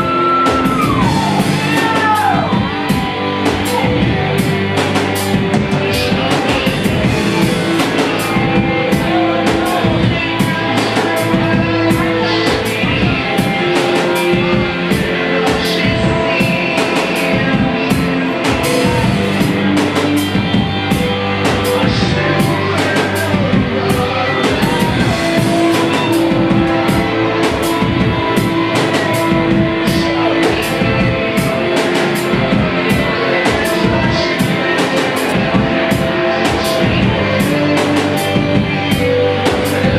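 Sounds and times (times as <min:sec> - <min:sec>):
drum kit steady beat: 0:00.0 - 0:39.9
electric guitar: 0:00.0 - 0:39.9.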